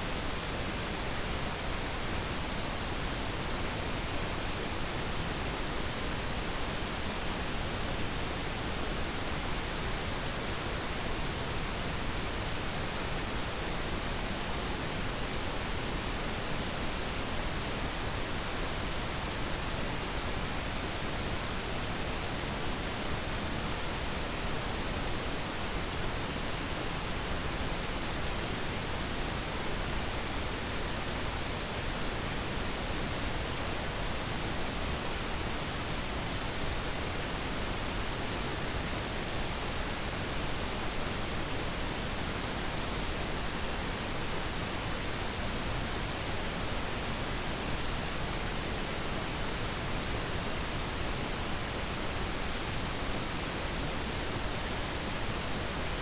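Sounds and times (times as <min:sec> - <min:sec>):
steady pink noise: 0:00.0 - 0:56.0.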